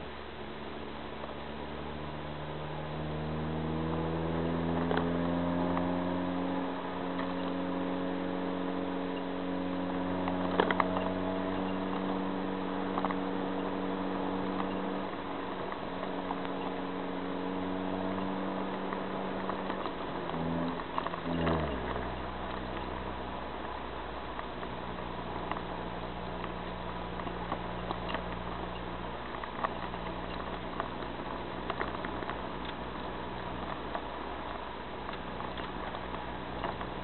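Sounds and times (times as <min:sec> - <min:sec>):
car engine accelerating and droning: 0:00.0 - 0:37.0.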